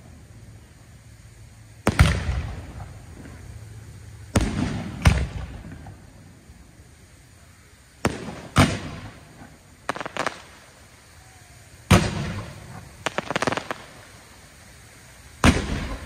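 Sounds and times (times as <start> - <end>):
firework shells bursting: 0.0 - 16.0
crackling firework pops: 1.8 - 7.2, 7.9 - 16.0.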